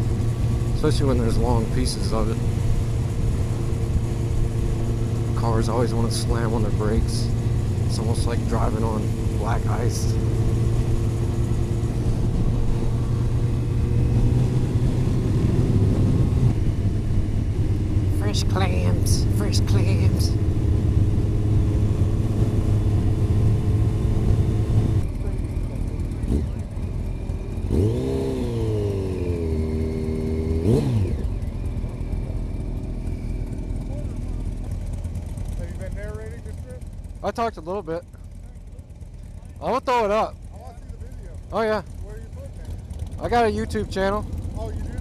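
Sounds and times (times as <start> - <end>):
motorcycle engine cruising: 0.0 - 45.0
wind and road noise: 0.0 - 45.0.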